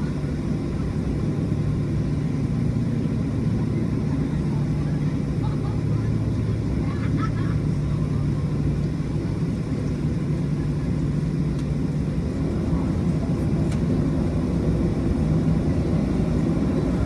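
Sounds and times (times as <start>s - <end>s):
constant low hum: 0.0s - 17.0s
jet engine cabin drone: 0.0s - 17.0s.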